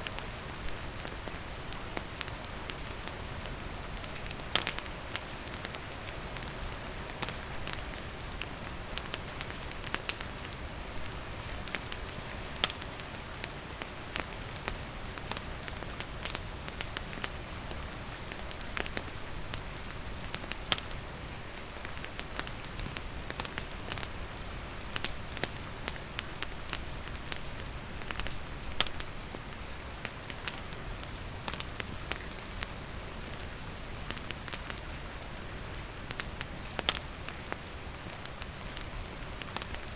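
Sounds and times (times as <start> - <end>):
campfire crackling: 0.0 - 39.9
steady rain: 0.0 - 39.9.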